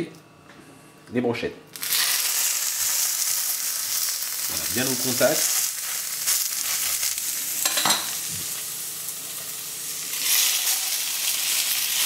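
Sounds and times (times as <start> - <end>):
skewers sizzling in frying pan: 1.7 - 12.0.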